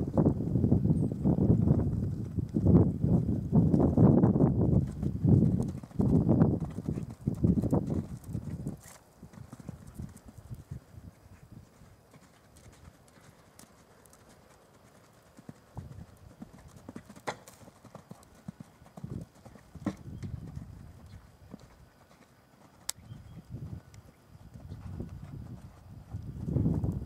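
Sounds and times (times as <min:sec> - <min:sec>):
horse hooves cantering on sand: 0:01.1 - 0:27.0.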